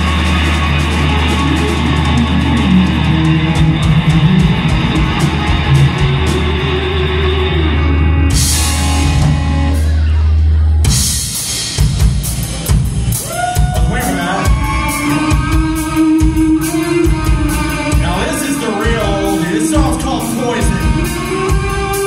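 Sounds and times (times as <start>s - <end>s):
bass guitar: 0.0s - 22.0s
drum kit: 0.0s - 22.0s
electric guitars: 0.0s - 22.0s.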